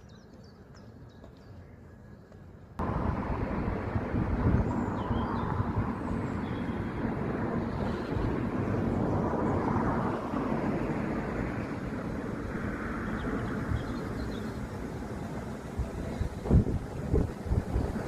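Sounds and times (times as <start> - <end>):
train passing: 2.4 - 18.0.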